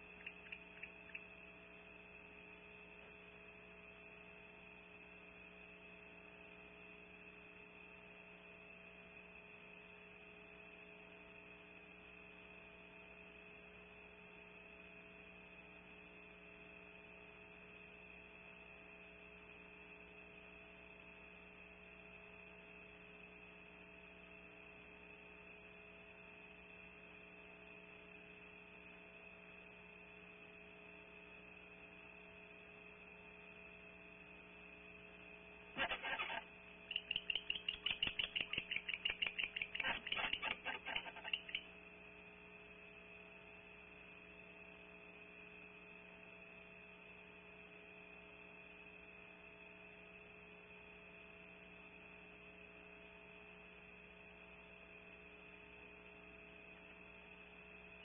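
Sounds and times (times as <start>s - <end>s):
electrical hum with high whine: 0.0s - 58.0s.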